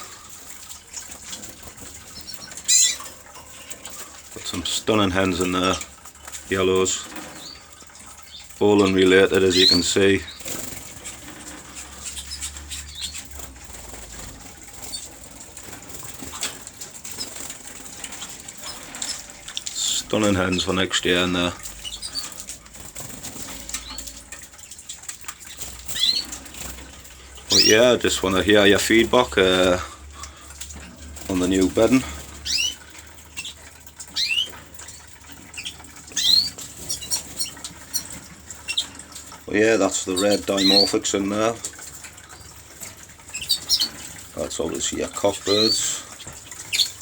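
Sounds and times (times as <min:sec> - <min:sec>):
birds hopping and clicking: 0:00.0 - 0:47.0
canaries chirping: 0:00.0 - 0:47.0.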